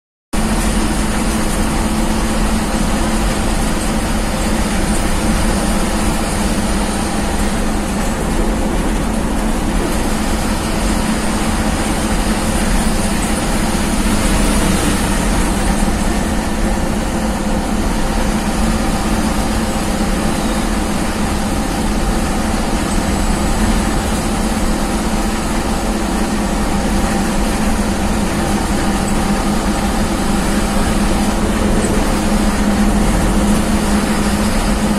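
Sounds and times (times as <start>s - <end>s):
bus engine droning: 0.4s - 34.9s
road and tyre noise: 0.4s - 34.9s.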